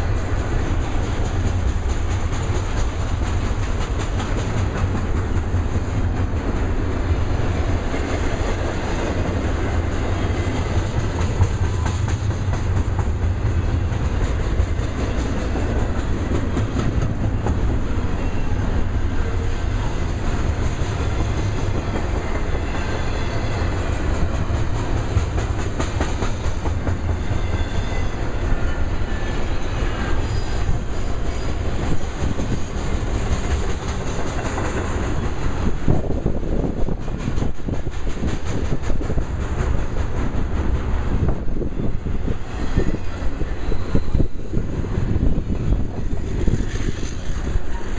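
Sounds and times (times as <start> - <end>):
steel train wheels on rails: 0.0 - 47.9.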